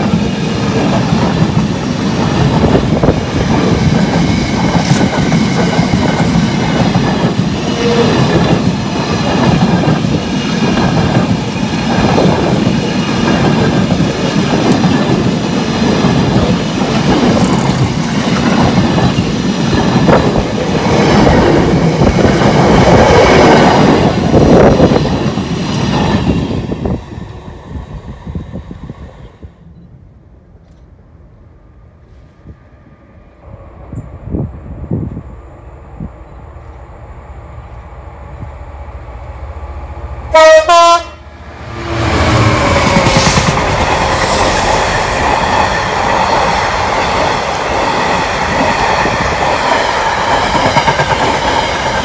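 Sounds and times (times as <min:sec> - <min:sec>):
train wheels rumbling on rails: 0:00.0 - 0:29.9, 0:33.4 - 0:52.0.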